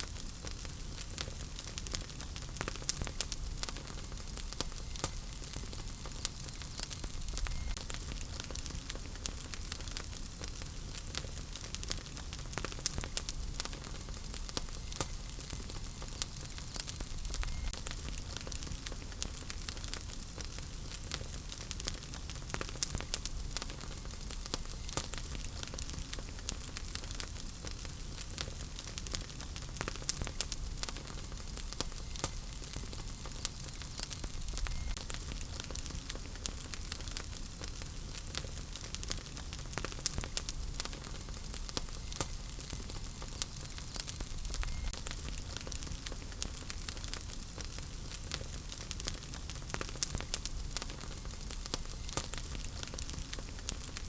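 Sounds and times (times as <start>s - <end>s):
fire rumbling and hissing: 0.0s - 54.0s
logs crackling and popping: 0.0s - 54.0s.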